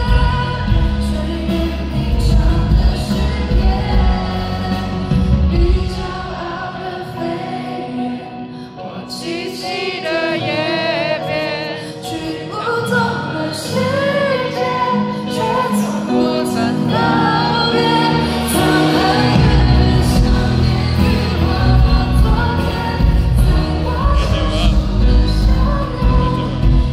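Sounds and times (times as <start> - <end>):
live band accompaniment: 0.0 - 26.9
woman singing pop ballad: 0.0 - 26.9.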